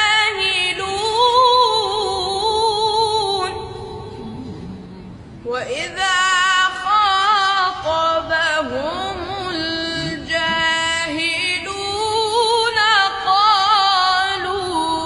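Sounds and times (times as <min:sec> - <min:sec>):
person chanting recitation: 0:00.0 - 0:15.0.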